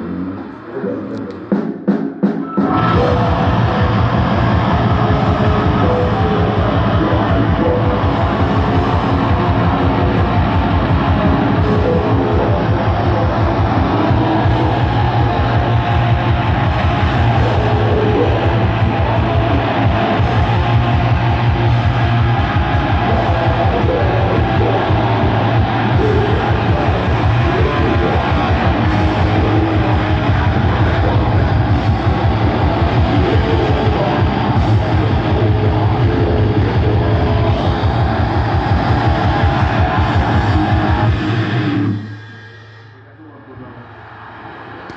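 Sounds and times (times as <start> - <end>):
metal band playing loud: 1.0 - 42.0.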